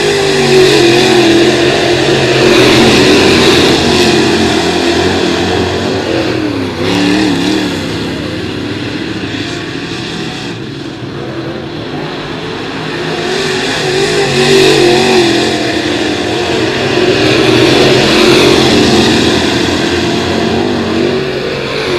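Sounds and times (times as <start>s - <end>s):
race car engines running hard: 0.0s - 21.9s.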